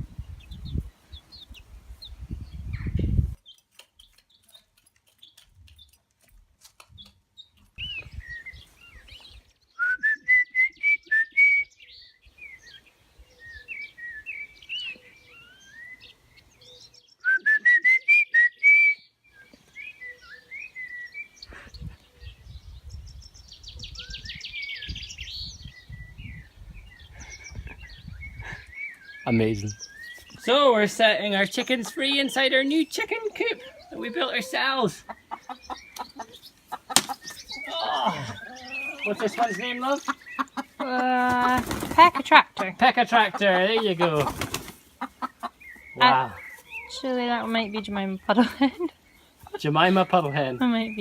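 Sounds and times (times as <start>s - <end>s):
bird chirping: 0.0s - 51.0s.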